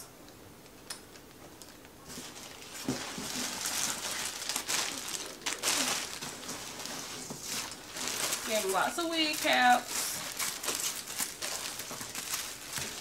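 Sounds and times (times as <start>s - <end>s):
plastic bags crinkling: 2.0s - 13.0s.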